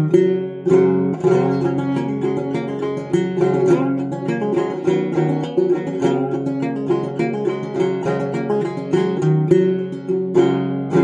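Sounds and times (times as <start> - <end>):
banjo plucked notes: 0.0 - 11.0.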